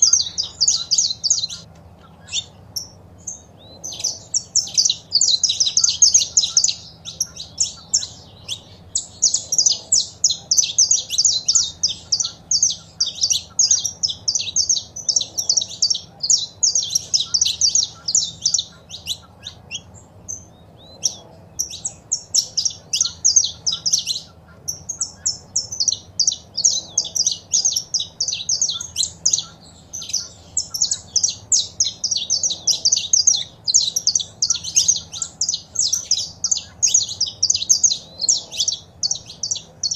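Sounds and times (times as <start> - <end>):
finches singing and calling: 0.0 - 39.9.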